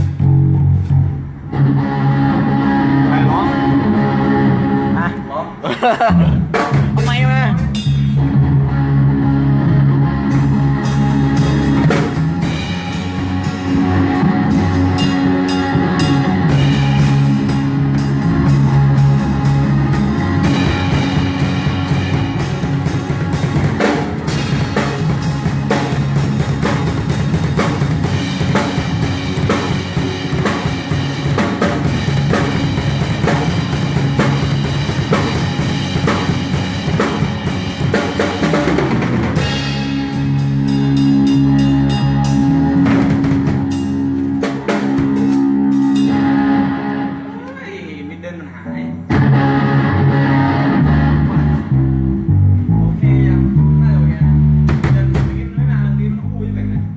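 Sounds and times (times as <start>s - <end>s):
live rock band playing: 0.0s - 55.7s.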